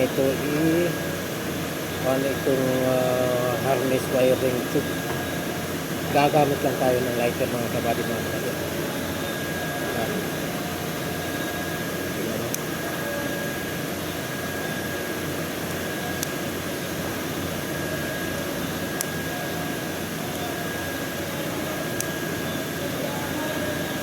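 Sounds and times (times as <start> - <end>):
fan whooshing: 0.0 - 24.0
faint steady whistle: 2.1 - 16.4, 17.5 - 24.0.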